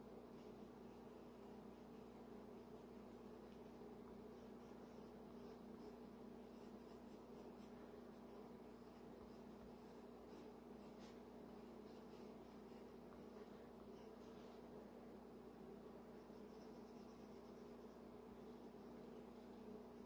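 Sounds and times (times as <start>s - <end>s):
pencil scratching on paper: 0.3s - 14.7s, 16.1s - 18.0s.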